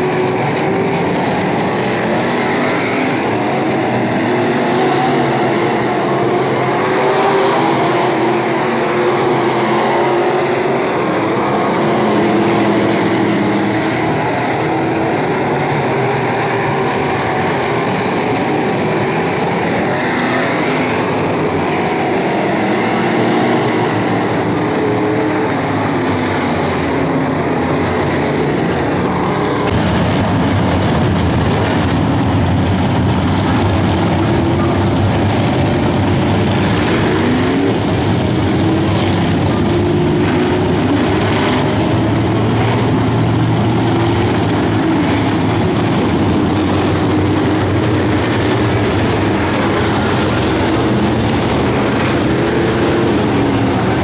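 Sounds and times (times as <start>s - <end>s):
race cars passing: 0.0s - 54.0s.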